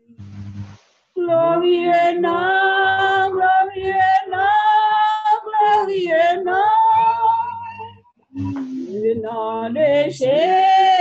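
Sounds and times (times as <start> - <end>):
woman singing a slow hymn: 1.2 - 11.0.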